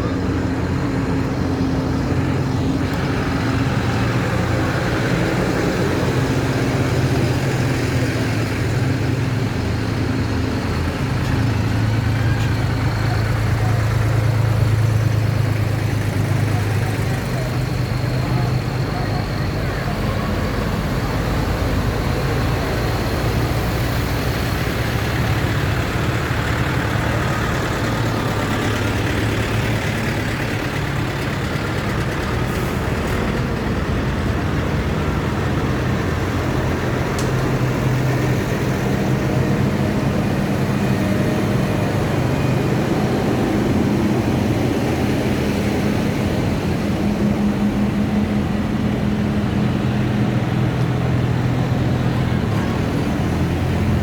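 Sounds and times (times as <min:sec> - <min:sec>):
tractor engines humming: 0:00.0 - 0:54.0.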